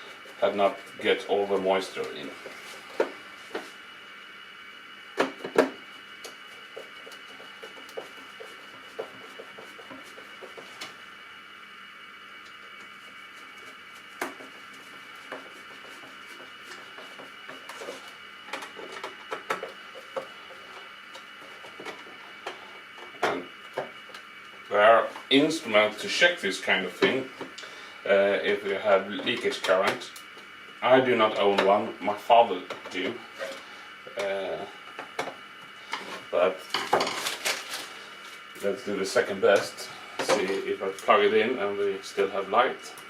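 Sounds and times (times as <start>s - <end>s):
steady high-pitched hum: 0.0s - 43.0s.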